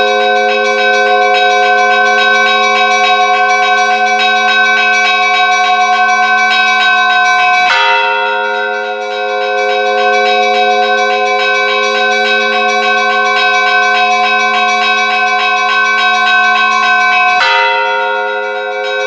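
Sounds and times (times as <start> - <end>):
large bells humming: 0.0 - 19.0
small church bells striking: 0.0 - 19.0.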